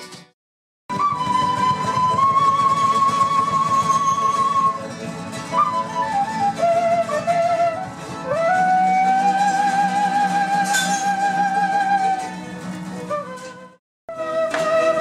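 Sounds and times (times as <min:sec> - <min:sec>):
strummed acoustic guitars: 0:00.0 - 0:00.4, 0:01.0 - 0:15.0
flute melody with vibrato: 0:00.9 - 0:15.0.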